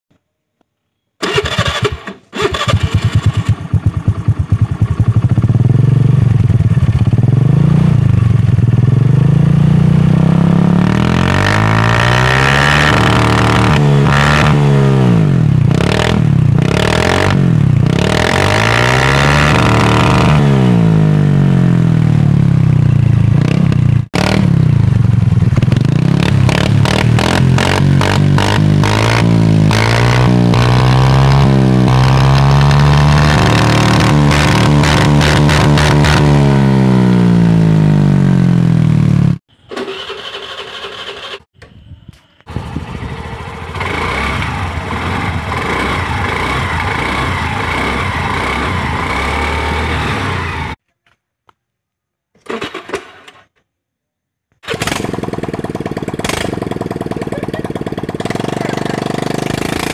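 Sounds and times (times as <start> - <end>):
scooter engine revving: 1.2 - 41.5, 42.5 - 50.8, 54.6 - 59.9.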